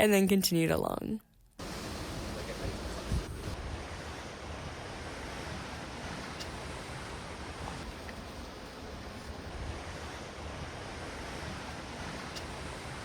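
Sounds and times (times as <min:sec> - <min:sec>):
ocean surf: 0:01.6 - 0:13.0
wind rumbling on microphone: 0:01.6 - 0:13.0.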